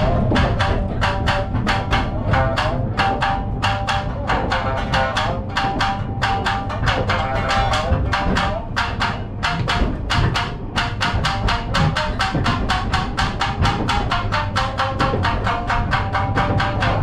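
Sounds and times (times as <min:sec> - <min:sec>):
shamisen fast percussive plucks: 0:00.0 - 0:17.0.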